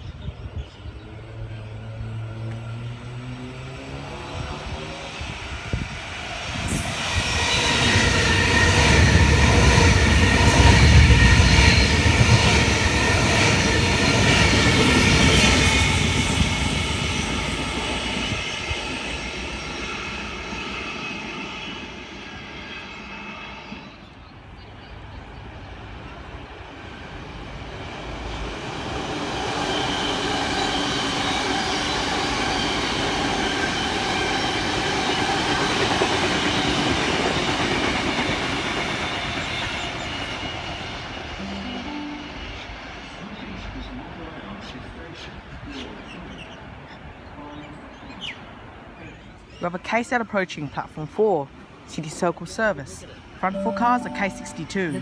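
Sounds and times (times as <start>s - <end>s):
electric train passing: 0.5s - 44.7s, 53.0s - 55.0s.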